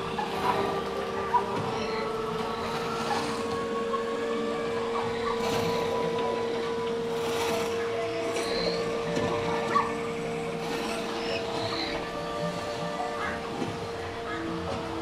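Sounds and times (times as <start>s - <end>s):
steady held hum: 0.0s - 15.0s.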